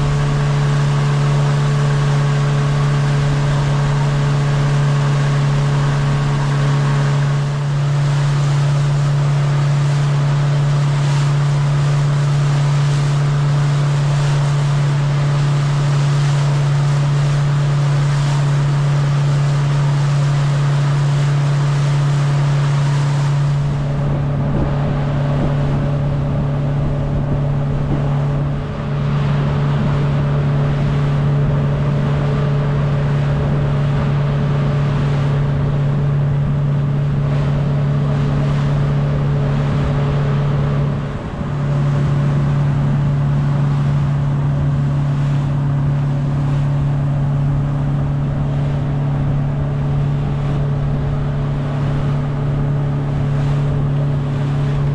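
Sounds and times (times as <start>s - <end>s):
outboard motor running: 0.0s - 54.9s
water rushing in wake: 0.0s - 54.9s.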